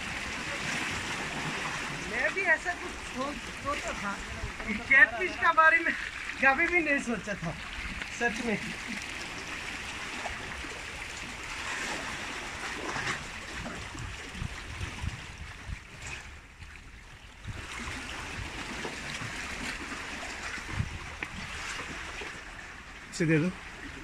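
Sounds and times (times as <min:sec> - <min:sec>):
seawater sloshing among concrete blocks: 0:00.0 - 0:24.0.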